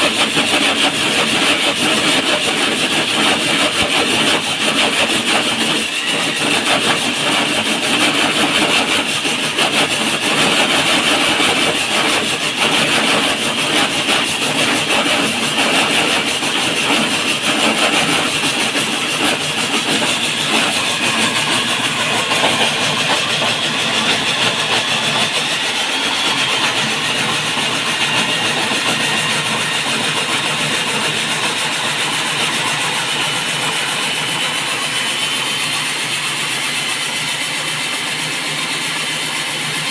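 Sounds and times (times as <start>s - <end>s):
core drill grinding into concrete: 0.0s - 39.9s.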